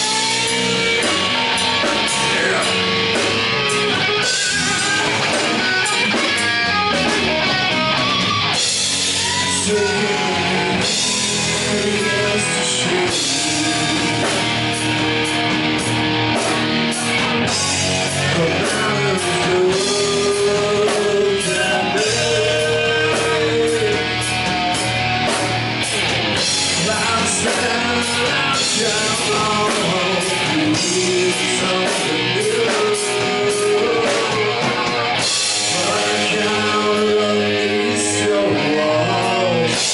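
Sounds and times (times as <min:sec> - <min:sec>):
man singing: 0:00.0 - 0:06.4, 0:08.6 - 0:14.8, 0:17.2 - 0:24.9, 0:26.4 - 0:39.9
rock band playing: 0:00.0 - 0:39.9.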